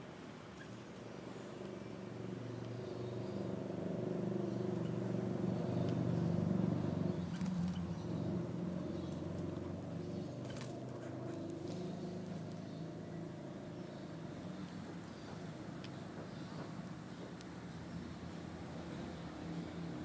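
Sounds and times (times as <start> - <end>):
vehicle engine hum passing by: 1.1 - 20.0.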